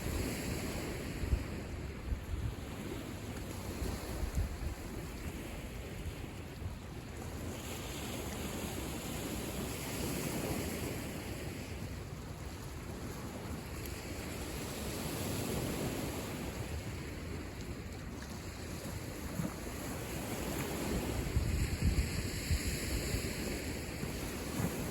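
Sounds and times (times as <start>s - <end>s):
waves washing onto shore: 0.0s - 24.9s
wind rumbling on microphone: 0.0s - 24.9s.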